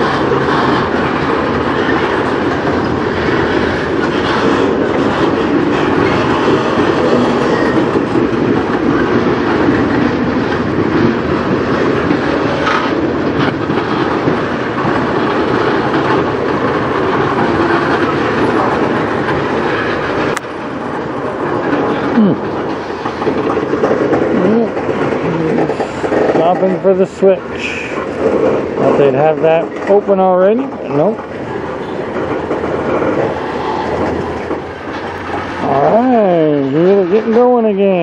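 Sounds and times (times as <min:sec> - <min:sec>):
train wheels clacking over rail joints: 0:00.0 - 0:38.0.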